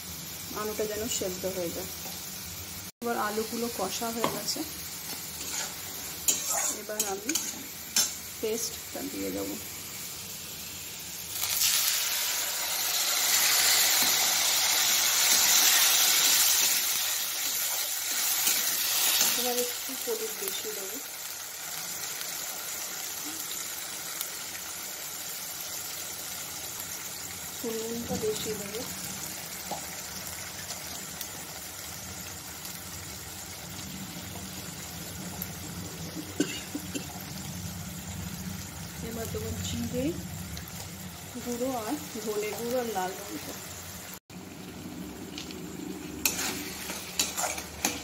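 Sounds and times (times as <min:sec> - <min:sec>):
food sizzling in hot oil: 0:00.0 - 0:48.0.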